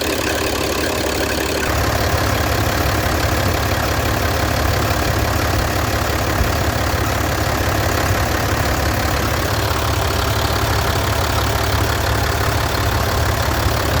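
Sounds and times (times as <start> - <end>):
diesel truck engine idling: 0.0 - 14.0
drive belt noise: 0.0 - 14.0.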